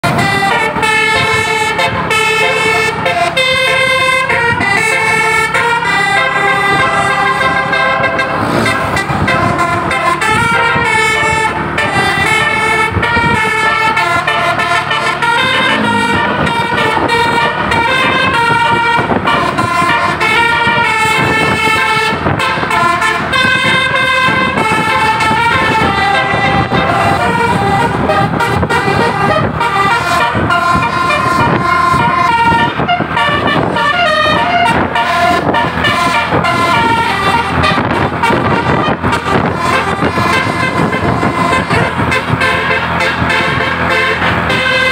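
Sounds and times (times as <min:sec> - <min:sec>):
musical horn playing a tune: 0:00.0 - 0:44.9.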